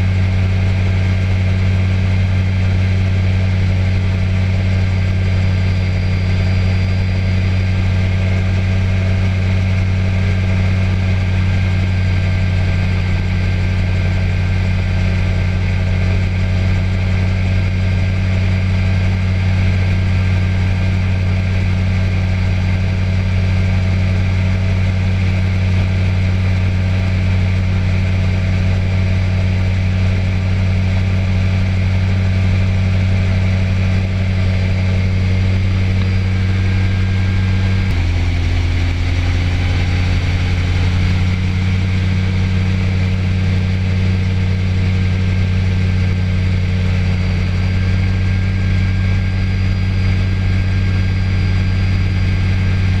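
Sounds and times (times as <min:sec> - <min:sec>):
light aircraft engine in flight: 0:00.0 - 0:53.0.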